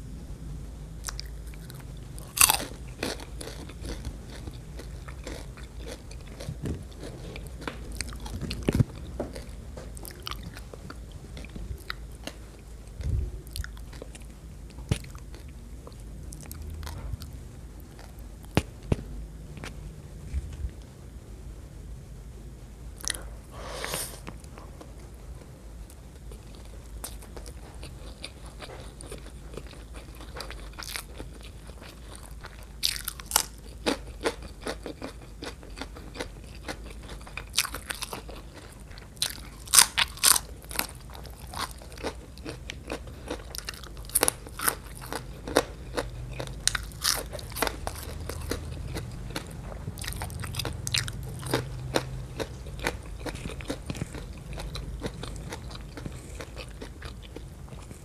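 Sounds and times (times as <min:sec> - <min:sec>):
crunchy bites and chewing: 0:01.0 - 0:12.4, 0:13.4 - 0:17.2, 0:26.3 - 0:58.0.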